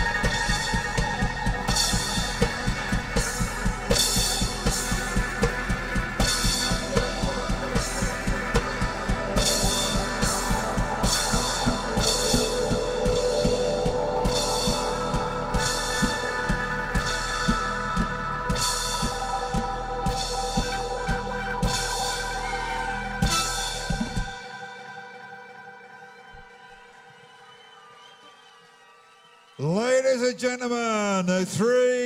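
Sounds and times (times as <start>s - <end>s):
live band playing: 0.0s - 27.2s.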